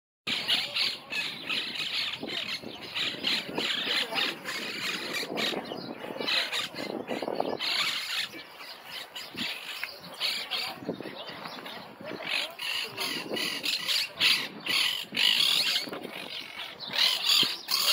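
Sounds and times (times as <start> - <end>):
parakeets squawking: 0.3 - 17.9.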